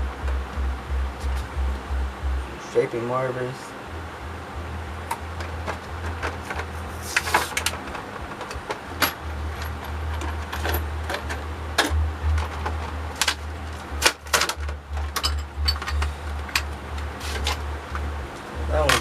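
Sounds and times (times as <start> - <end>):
low handling rumble: 0.0 - 19.0.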